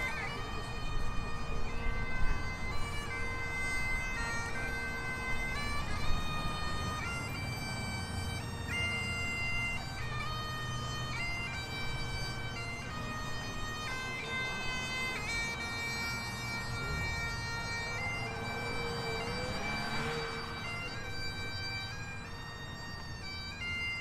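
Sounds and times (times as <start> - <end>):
bagpipes playing slow tune: 0.0 - 24.0.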